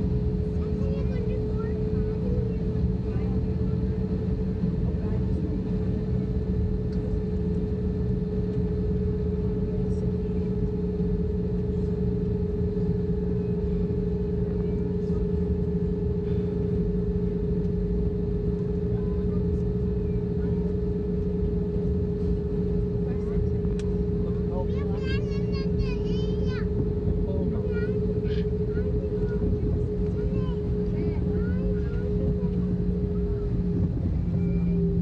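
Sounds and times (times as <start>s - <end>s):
airliner engine drone: 0.0s - 35.0s.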